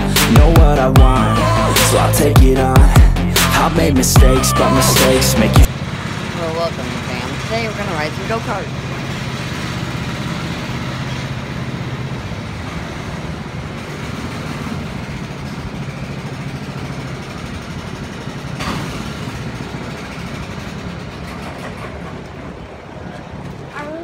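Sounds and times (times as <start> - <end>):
go-kart engines running: 3.6 - 24.0.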